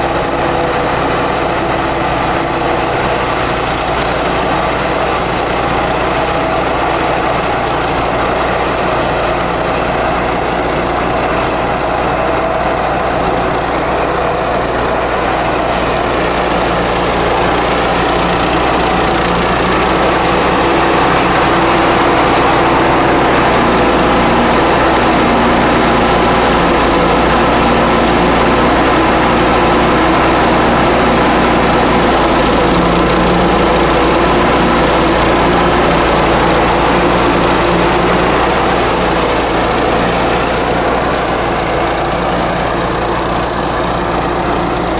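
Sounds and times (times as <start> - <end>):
thresher engine drone: 0.0 - 44.9.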